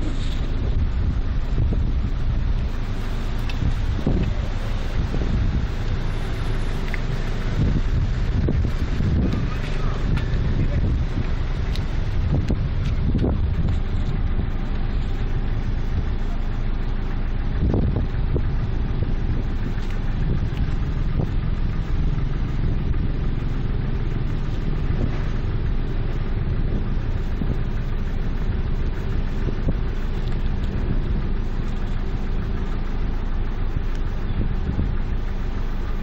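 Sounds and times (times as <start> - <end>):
engine idling hum: 0.0 - 36.0.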